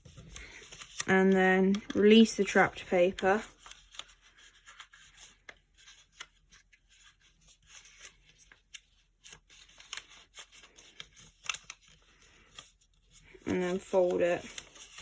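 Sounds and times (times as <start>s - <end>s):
paper being folded and creased: 0.0s - 15.0s.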